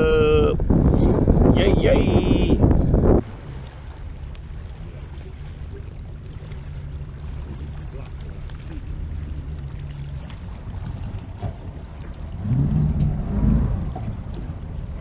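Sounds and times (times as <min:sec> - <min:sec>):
boat motor idling: 0:00.0 - 0:15.0.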